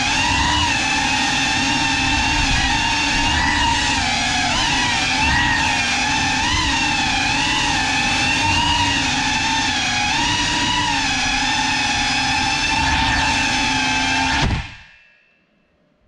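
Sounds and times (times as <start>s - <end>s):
drone motors and propellers whining: 0.0s - 15.1s.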